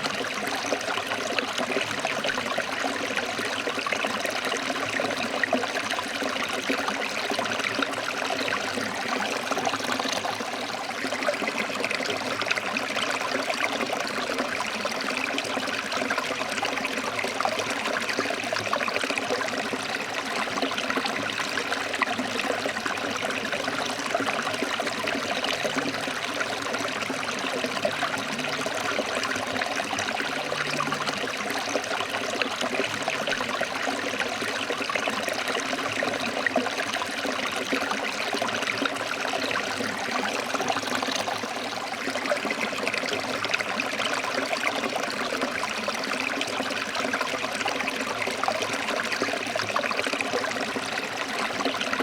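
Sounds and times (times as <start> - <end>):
stream flowing over rocks: 0.0 - 52.0.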